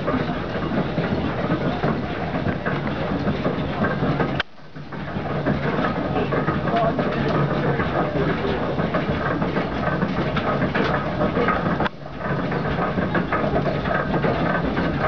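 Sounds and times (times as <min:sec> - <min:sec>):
clatter of engine knocks: 0:00.0 - 0:15.0
steam engine low hum: 0:00.0 - 0:15.0.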